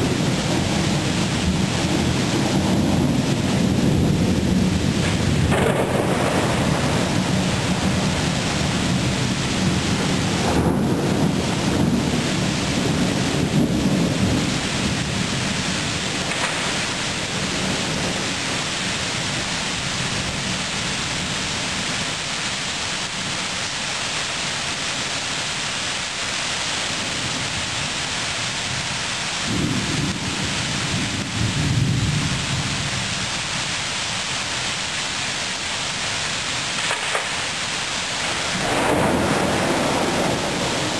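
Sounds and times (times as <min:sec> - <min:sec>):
thunder rumbling: 0:00.0 - 0:22.2, 0:26.7 - 0:34.7, 0:35.3 - 0:40.9
rain hissing: 0:00.0 - 0:40.9.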